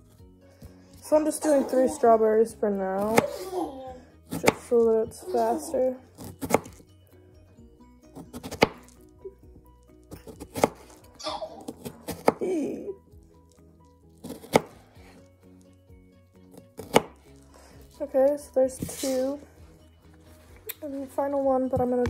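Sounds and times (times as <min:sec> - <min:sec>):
quiet background music: 0:00.0 - 0:22.0.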